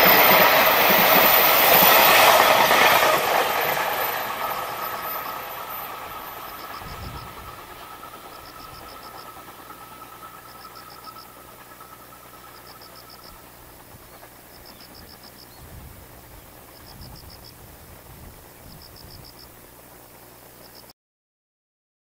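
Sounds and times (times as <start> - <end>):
steady whine: 0.0 - 20.7
distant freight train: 0.0 - 20.9
insect chirping trills: 0.0 - 20.9.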